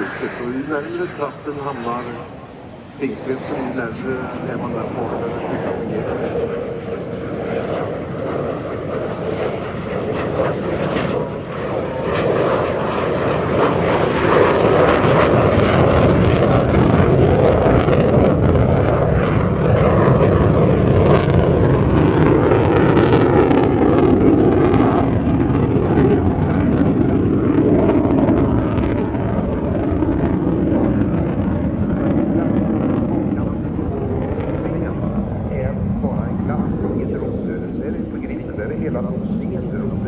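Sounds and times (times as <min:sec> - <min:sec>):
jet engine roaring: 0:00.0 - 0:40.0.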